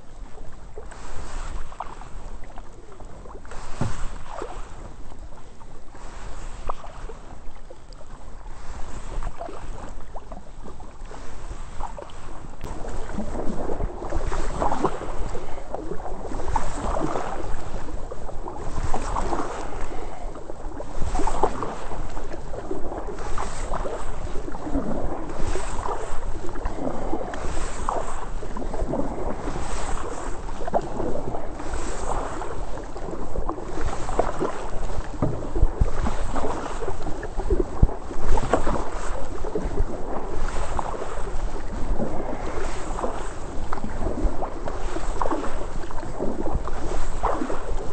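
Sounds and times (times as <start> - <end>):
kayak paddle swishing in water: 0.0 - 47.9.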